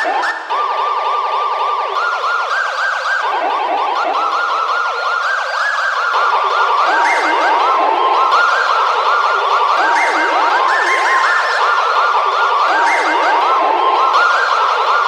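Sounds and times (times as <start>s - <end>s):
layered alert sirens sweeping: 0.0s - 15.0s.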